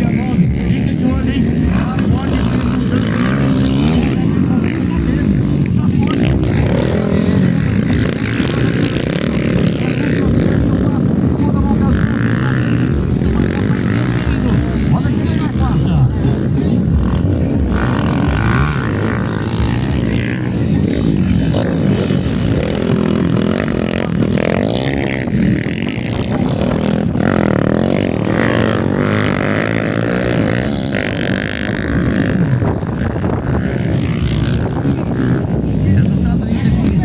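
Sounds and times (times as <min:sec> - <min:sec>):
dirt bike engines racing: 0:00.0 - 0:37.0.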